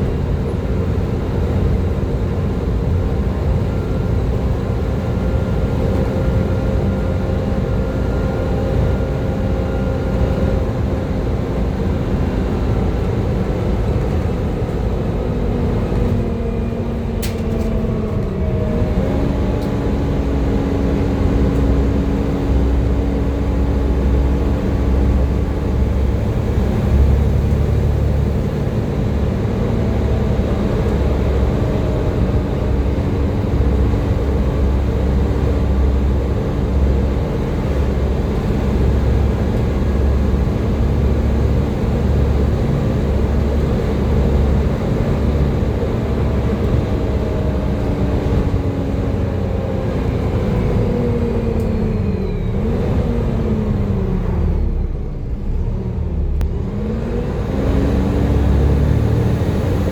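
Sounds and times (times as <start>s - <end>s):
bus diesel engine whining: 0.0s - 59.9s.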